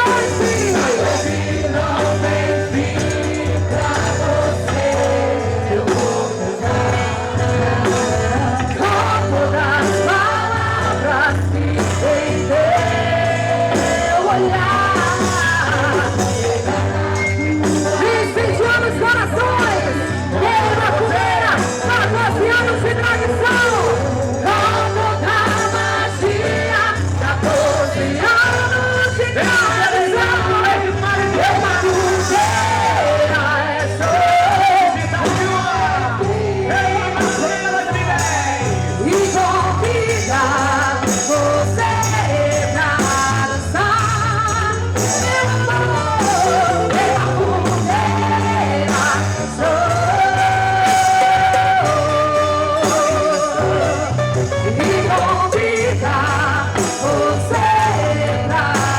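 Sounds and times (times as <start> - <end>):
band playing: 0.0 - 58.9
person singing: 0.0 - 58.9.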